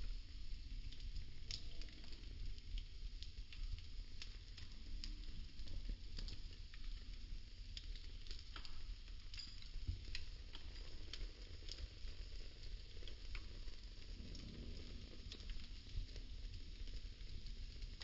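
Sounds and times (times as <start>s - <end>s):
burning sticks crackling: 0.8s - 18.0s.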